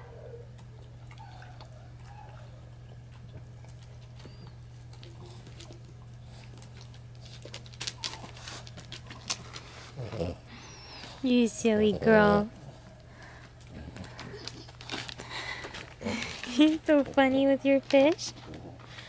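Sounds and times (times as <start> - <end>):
steady low hum: 0.0 - 19.0
dog sniffing and snuffling: 0.6 - 19.0.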